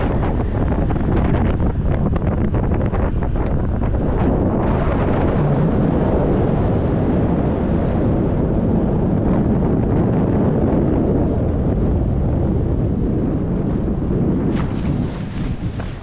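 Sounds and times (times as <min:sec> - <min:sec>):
wind buffeting camera microphone: 0:00.0 - 0:16.0.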